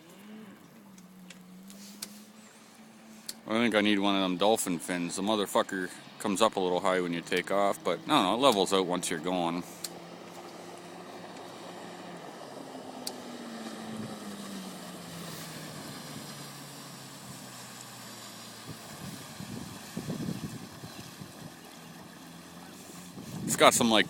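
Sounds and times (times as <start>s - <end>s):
outboard motor on a boat: 0.0s - 24.0s.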